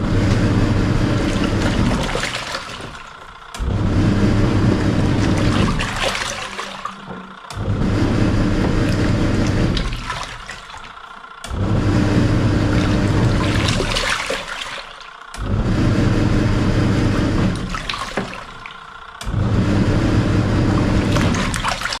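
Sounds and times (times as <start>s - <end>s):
washing machine motor: 0.0s - 22.0s
water swishing in a tub: 0.0s - 22.0s.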